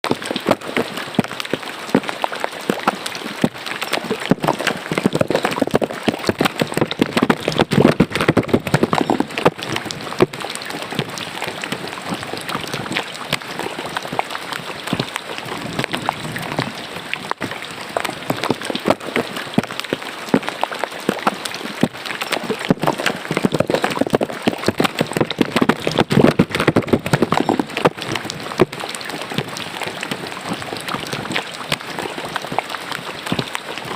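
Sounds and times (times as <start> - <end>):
rain patter: 0.0 - 33.9
splashing water: 0.0 - 33.9.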